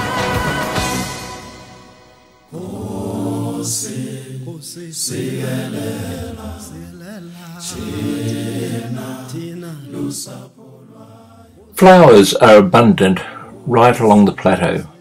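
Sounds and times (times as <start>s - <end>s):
low voices chanting: 2.5s - 15.0s.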